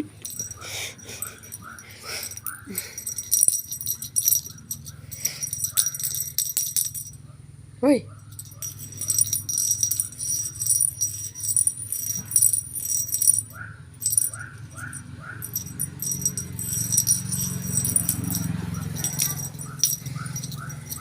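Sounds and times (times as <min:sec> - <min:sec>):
small metal bell jingling: 0:00.0 - 0:07.2, 0:08.1 - 0:21.0.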